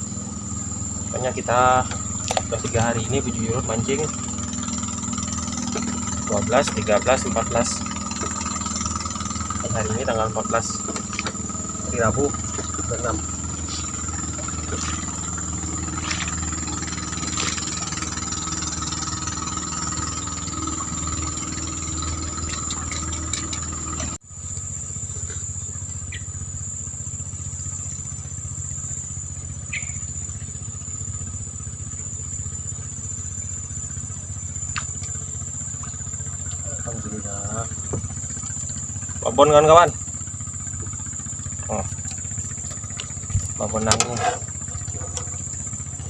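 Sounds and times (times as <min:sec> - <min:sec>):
high-pitched insect drone: 0:00.0 - 0:46.0
small engine running: 0:00.0 - 0:46.0.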